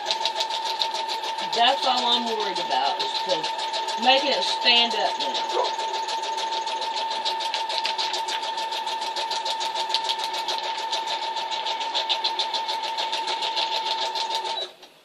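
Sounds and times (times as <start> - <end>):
sewing machine stitching: 0.0 - 15.0.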